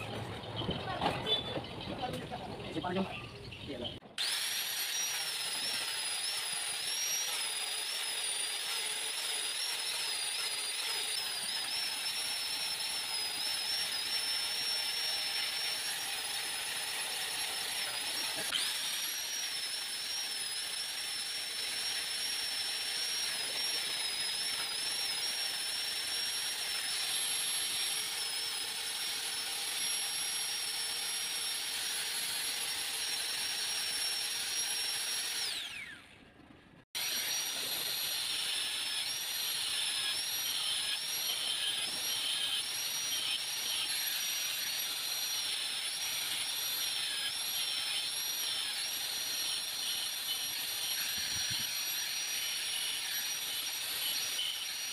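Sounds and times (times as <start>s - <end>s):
angle grinder sanding wood: 4.2s - 35.9s, 37.0s - 54.9s.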